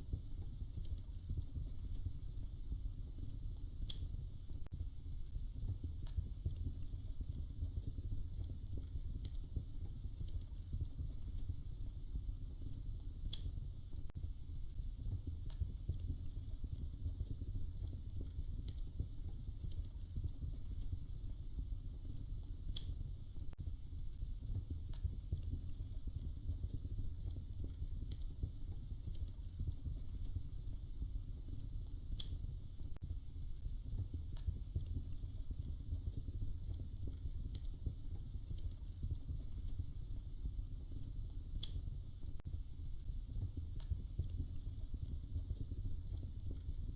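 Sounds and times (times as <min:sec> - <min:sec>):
fire pops and snaps: 0:00.0 - 0:46.9
wood fire crackling: 0:00.0 - 0:46.9.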